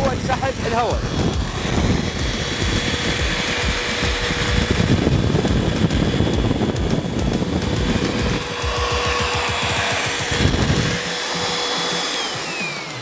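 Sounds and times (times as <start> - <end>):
stick vacuum cleaner running: 0.0 - 13.0.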